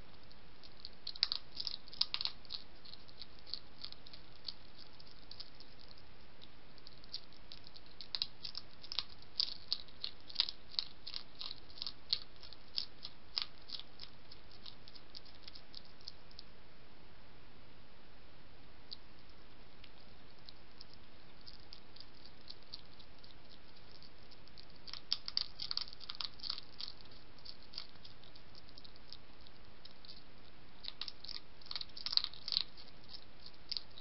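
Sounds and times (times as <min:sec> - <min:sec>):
hedgehog crunching biscuits: 0:00.1 - 0:16.5, 0:18.9 - 0:34.0.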